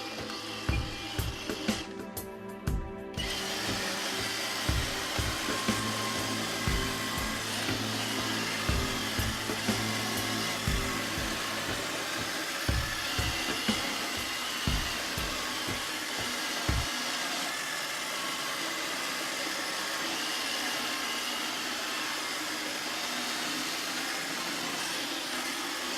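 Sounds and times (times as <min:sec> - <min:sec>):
robot vacuum whirring: 0:00.0 - 0:02.1, 0:03.1 - 0:25.9.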